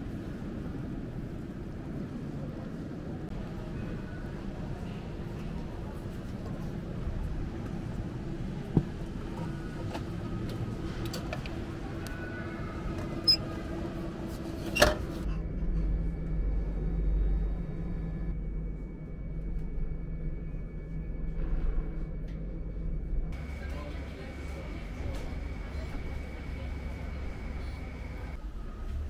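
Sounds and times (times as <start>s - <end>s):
street background noise: 0.0s - 19.9s, 22.8s - 29.0s
tram interior rumble: 0.0s - 29.0s.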